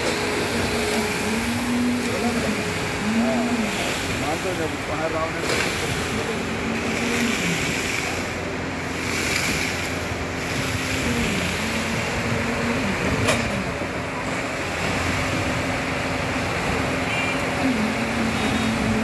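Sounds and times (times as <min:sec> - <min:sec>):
constant rushing noise: 0:00.0 - 0:19.0
diesel engine running under load: 0:00.0 - 0:19.0.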